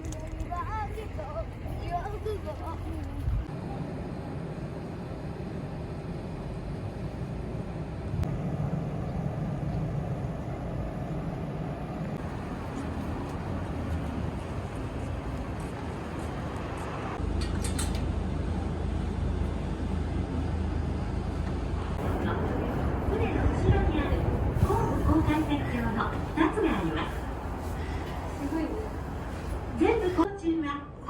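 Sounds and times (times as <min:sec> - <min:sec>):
vehicle rumble in motion: 0:00.0 - 0:30.3.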